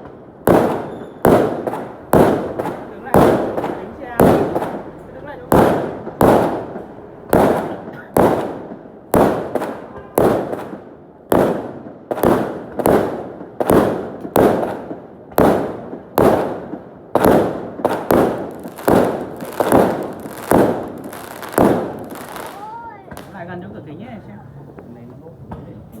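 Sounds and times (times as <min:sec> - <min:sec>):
fireworks bursting: 0:00.0 - 0:25.5.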